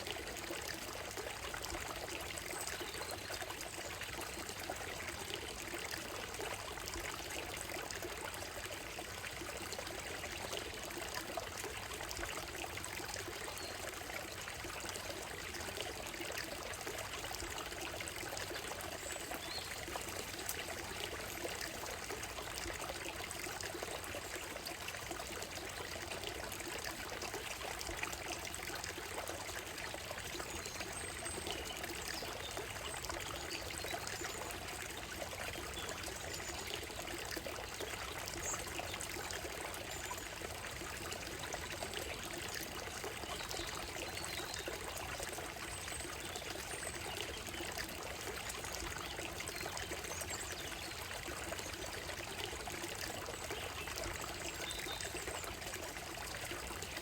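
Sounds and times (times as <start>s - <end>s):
stream trickling over stones: 0.0s - 57.0s.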